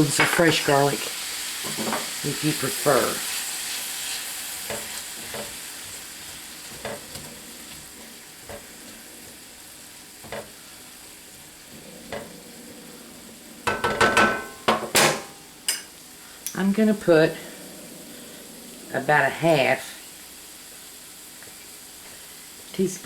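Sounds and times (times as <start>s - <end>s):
food sizzling in a skillet: 0.0s - 23.0s.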